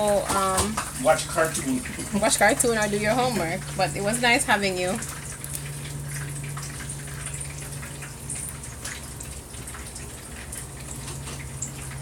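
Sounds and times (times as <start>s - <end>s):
oil sizzling in a frying pan: 0.0s - 12.0s
steady low hum: 0.0s - 12.0s.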